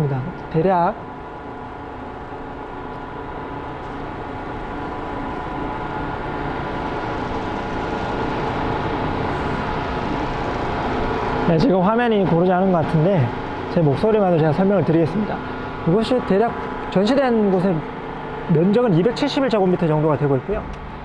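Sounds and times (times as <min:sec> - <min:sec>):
ventilation equipment hum: 0:00.0 - 0:21.0.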